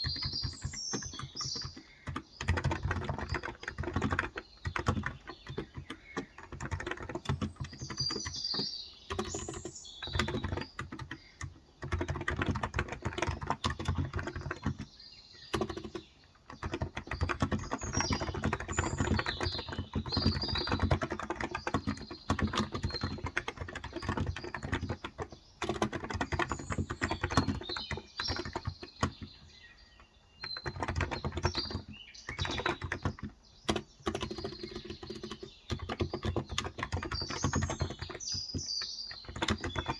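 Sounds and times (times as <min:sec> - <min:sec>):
fast keyboard typing: 0:00.0 - 0:29.6, 0:30.4 - 0:39.9
birds chirping: 0:00.0 - 0:39.9.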